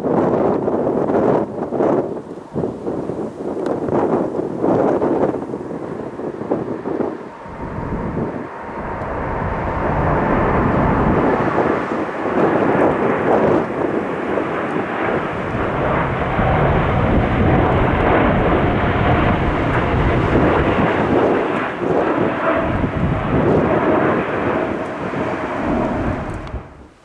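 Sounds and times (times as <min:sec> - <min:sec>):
airliner engines roaring: 0:00.0 - 0:27.0
wind rumbling on microphone: 0:00.0 - 0:27.0.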